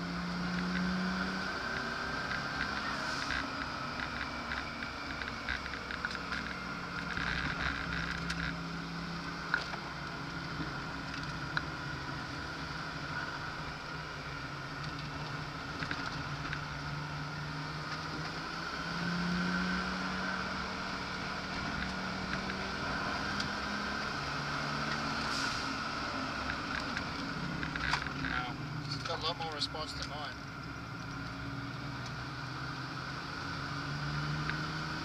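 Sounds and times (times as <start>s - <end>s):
car engine running hard: 0.0s - 35.0s
road and wind noise: 0.0s - 35.0s.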